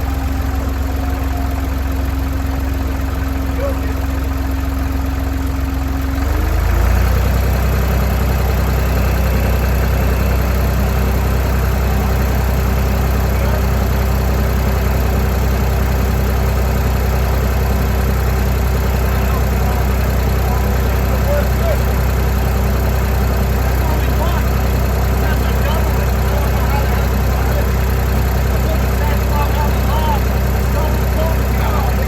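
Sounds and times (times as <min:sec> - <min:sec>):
motor humming: 0:00.0 - 0:32.0.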